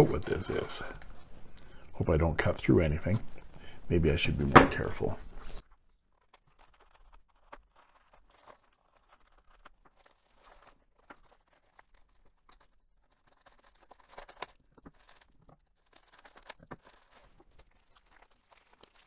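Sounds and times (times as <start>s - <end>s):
paper and plastic crinkling: 0.0s - 19.0s.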